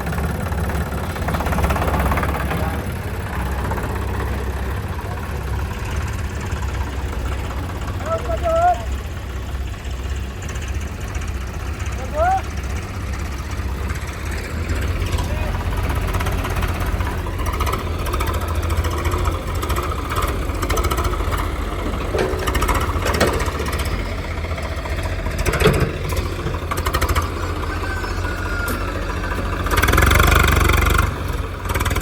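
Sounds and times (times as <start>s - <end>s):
diesel engines running: 0.0s - 32.0s.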